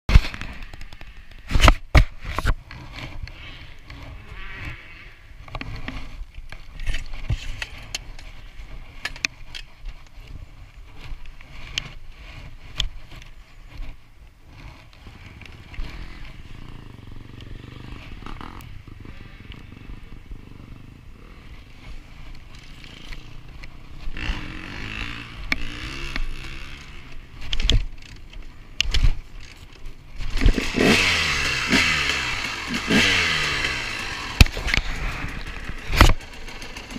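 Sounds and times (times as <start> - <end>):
motorcycle engine starting and revving: 0.1 - 9.4, 14.4 - 36.9.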